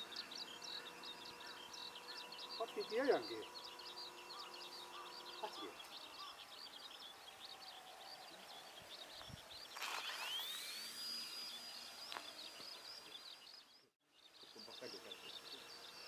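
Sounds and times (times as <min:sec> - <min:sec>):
electric motor whine: 0:00.0 - 0:13.9
small birds twittering: 0:00.0 - 0:16.0.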